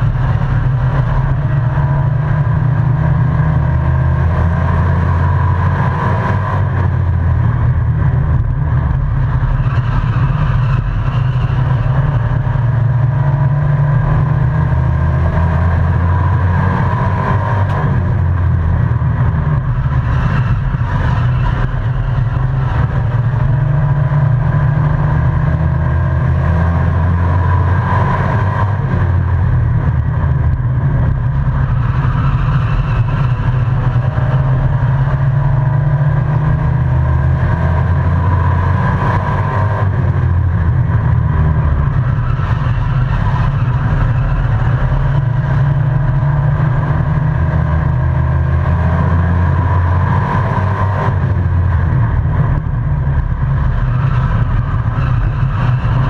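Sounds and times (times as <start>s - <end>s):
race truck engine revving: 0.0s - 56.0s.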